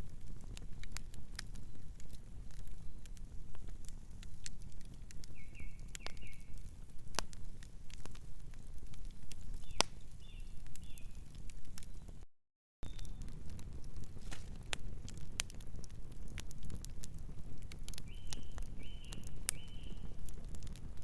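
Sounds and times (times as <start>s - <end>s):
wood fire crackling and popping: 0.0s - 12.2s, 12.8s - 21.0s.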